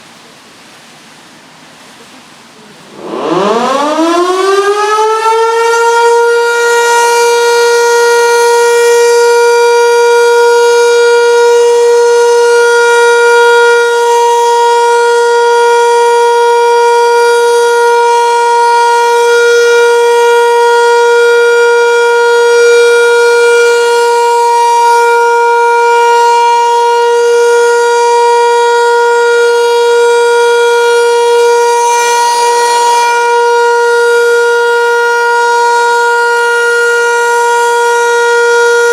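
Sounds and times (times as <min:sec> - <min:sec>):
motor siren steady tone: 0:02.9 - 0:38.9.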